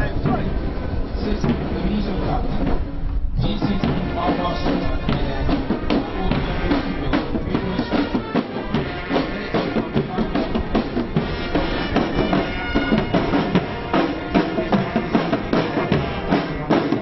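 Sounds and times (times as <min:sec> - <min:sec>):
bass and snare drums beating: 0:00.0 - 0:17.0
marching band playing: 0:00.0 - 0:17.0.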